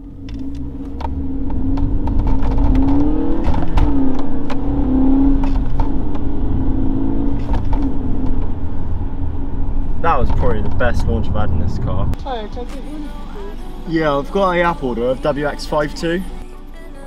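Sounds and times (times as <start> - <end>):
car engine accelerating: 0.0 - 16.4.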